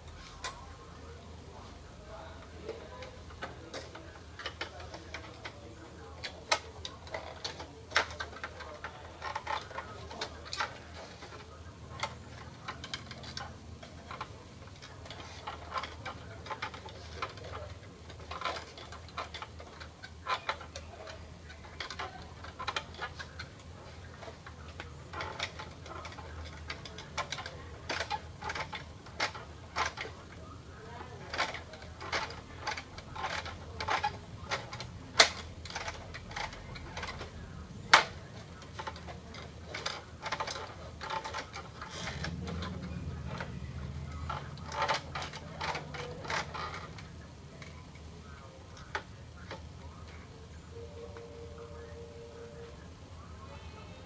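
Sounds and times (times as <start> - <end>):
plastic parts clicking: 2.3 - 50.4.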